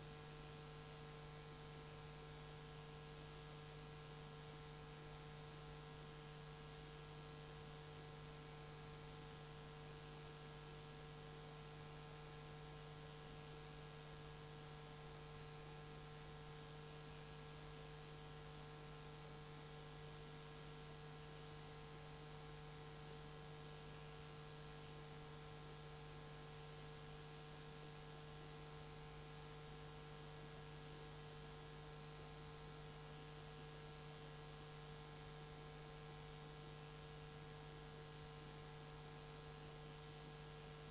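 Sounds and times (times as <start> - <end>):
faint electrical hum: 0.0 - 40.9.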